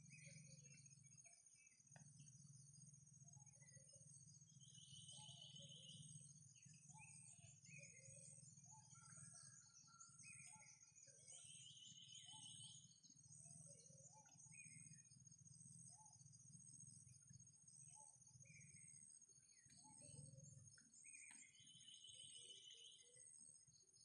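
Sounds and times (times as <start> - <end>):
bird calls and chirps: 0.0 - 24.0.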